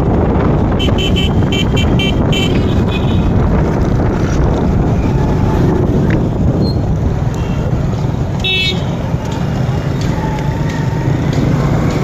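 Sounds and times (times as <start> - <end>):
motorcycle engine: 0.0 - 12.0
street traffic: 0.0 - 12.0
wind rumbling on microphone: 0.0 - 12.0.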